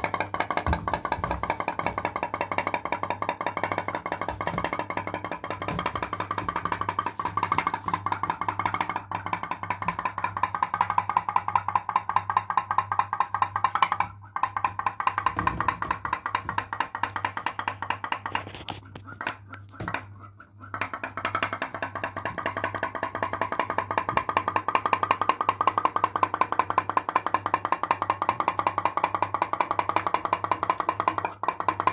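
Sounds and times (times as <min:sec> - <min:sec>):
pop-pop boat boiler popping: 0:00.0 - 0:20.1, 0:20.7 - 0:31.9.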